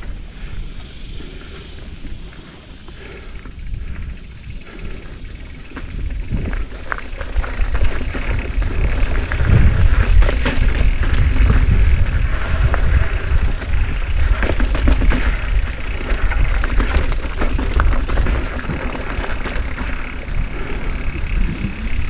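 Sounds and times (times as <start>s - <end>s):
bike frame and tyres rattling: 0.0s - 22.0s
wind rushing over microphone: 0.0s - 22.0s.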